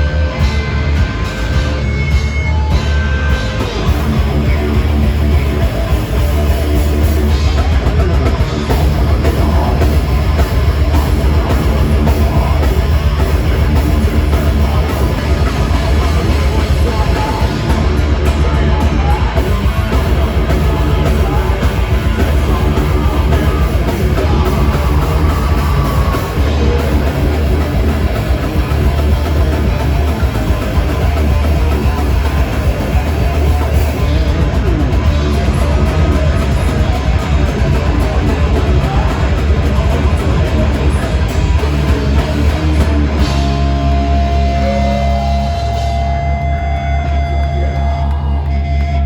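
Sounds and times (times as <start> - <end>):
heavy metal band playing live: 0.0 - 49.0.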